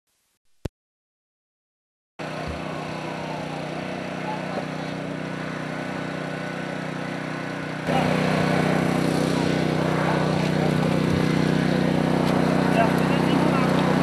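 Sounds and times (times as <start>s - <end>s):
engine idling: 2.2s - 14.0s.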